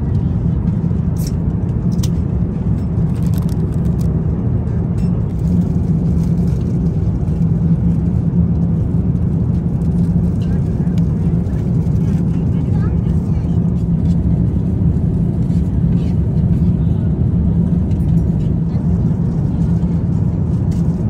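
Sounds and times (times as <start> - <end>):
airplane cabin roar: 0.0 - 21.0.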